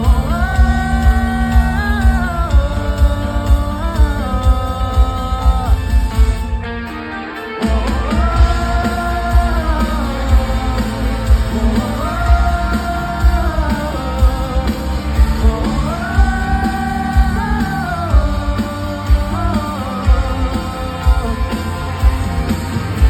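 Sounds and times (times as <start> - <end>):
drum beat: 0.0 - 6.6, 7.6 - 23.0
crowd singing along: 0.0 - 23.0
live pop-rock band playing: 0.0 - 23.0.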